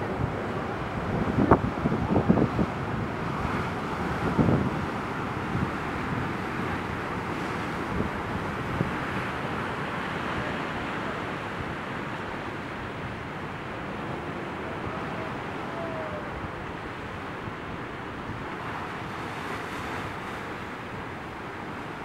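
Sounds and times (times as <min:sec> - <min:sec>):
wind buffeting microphone: 0:00.0 - 0:22.0
waves breaking on rocks: 0:00.1 - 0:22.0.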